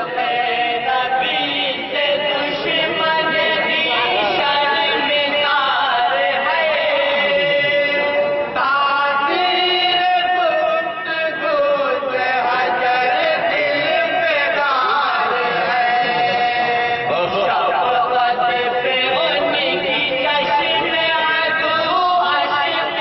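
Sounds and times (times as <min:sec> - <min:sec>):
men chanting unaccompanied: 0:00.0 - 0:23.0.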